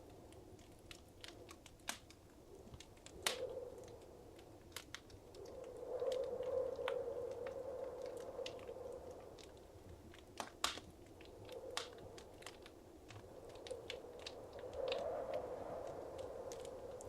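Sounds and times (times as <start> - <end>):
wood fire snapping and popping: 0.0 - 17.0
low rush of flame: 2.4 - 17.0.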